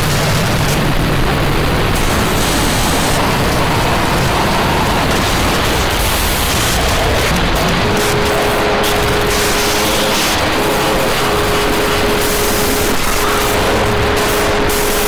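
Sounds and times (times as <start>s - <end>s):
harsh digital noise music: 0.0s - 15.0s.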